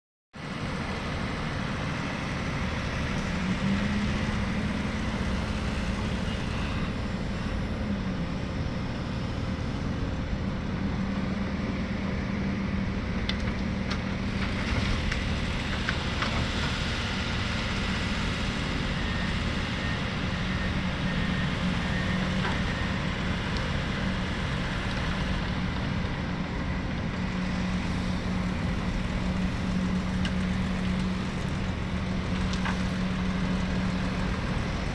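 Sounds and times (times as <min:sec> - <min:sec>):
heavy machine engine running: 0:00.4 - 0:34.9.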